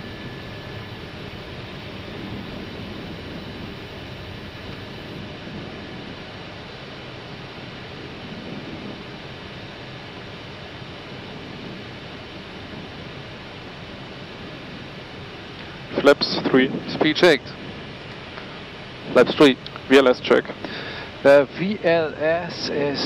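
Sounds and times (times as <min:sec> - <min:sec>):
aircraft engine noise: 0:00.0 - 0:23.0.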